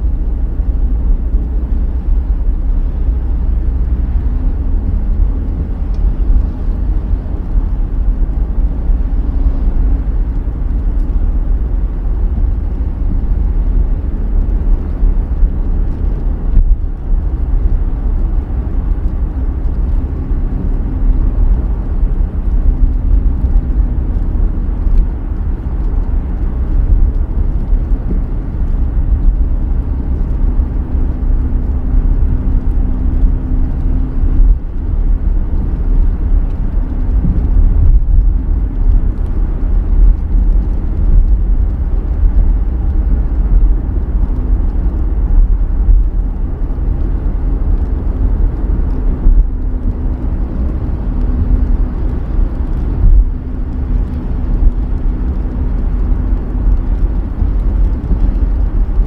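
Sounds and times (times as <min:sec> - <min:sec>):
rain: 0:00.0 - 0:59.0
tyres on wet road: 0:00.0 - 0:59.0.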